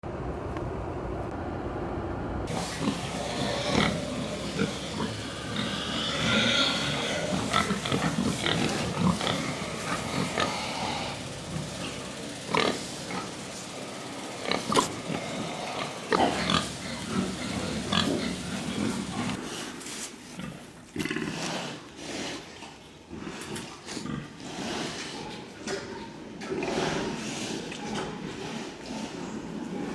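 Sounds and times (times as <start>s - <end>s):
pigs grunting and squealing: 2.5s - 19.5s, 20.4s - 29.9s.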